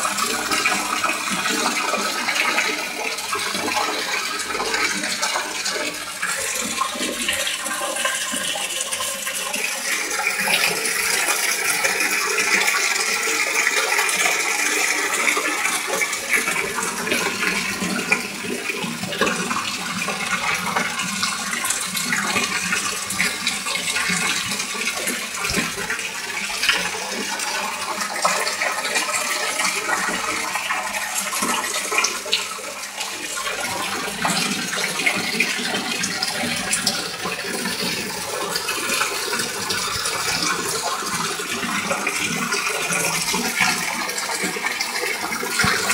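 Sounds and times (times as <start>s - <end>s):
water splashing and churning: 0.0s - 45.9s.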